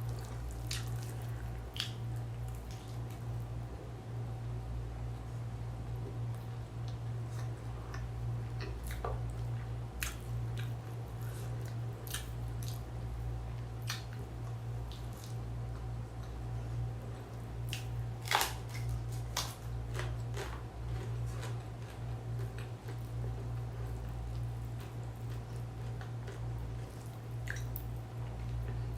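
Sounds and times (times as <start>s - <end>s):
wet chewing and mouth smacks: 0.0s - 3.2s, 6.3s - 12.9s, 13.5s - 16.4s, 17.1s - 28.8s
low hum: 0.0s - 28.9s.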